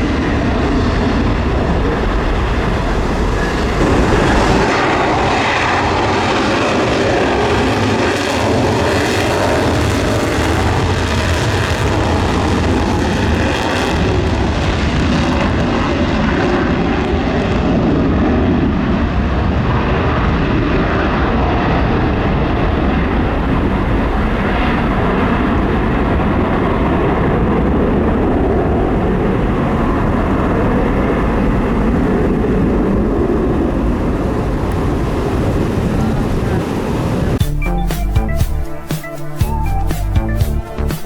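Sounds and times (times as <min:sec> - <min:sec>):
jet engines at takeoff power: 0:00.0 - 0:37.4.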